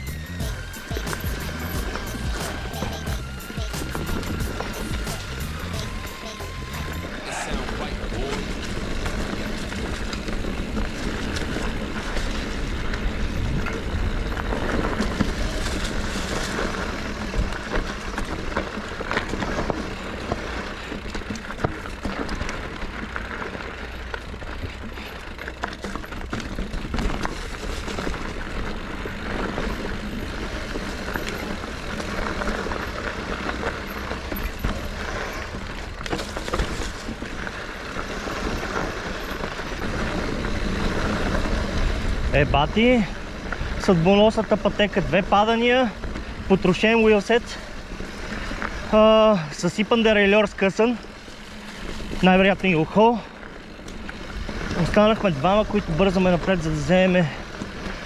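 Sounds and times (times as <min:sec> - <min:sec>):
bike knocking and rattling: 0:00.0 - 0:58.0
bike tyre noise on rough ground: 0:00.0 - 0:58.0.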